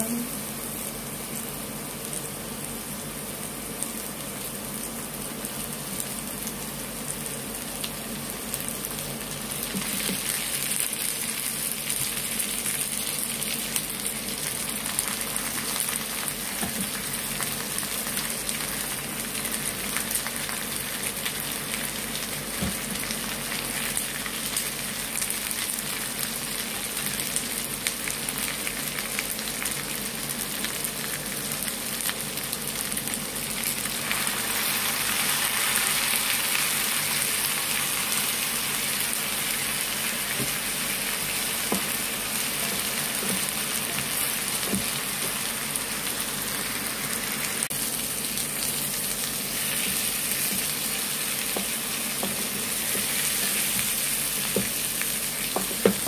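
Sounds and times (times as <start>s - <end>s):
chicken sizzling in hot oil: 0.1s - 56.0s.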